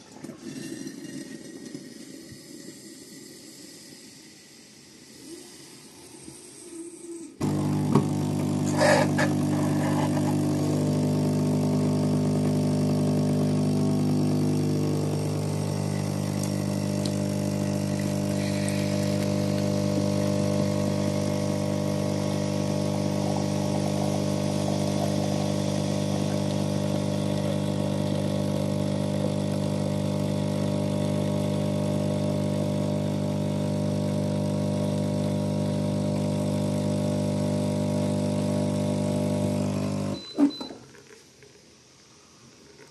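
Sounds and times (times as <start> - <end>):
coffee machine pump buzzing: 5.1 - 41.1.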